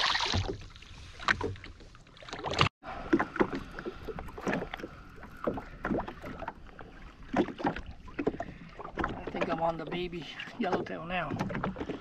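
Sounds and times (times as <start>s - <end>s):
small waves lapping against hull: 0.0s - 12.0s.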